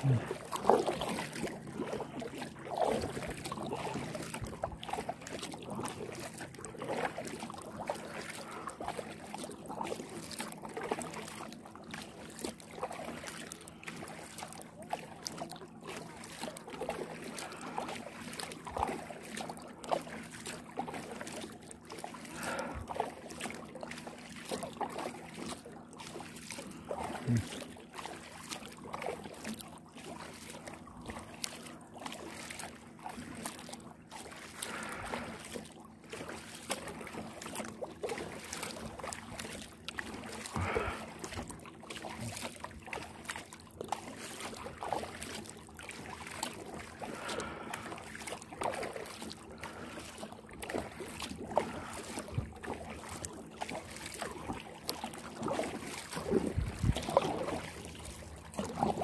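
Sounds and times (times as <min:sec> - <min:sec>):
kayak paddle strokes: 0:00.0 - 0:59.0
water trickling off paddle: 0:00.0 - 0:59.0.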